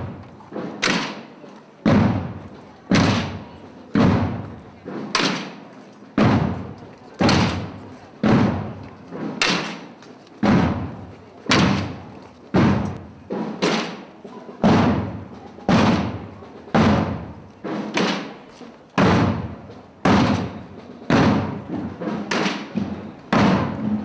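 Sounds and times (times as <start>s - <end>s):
marching drum beats: 0.0s - 24.0s.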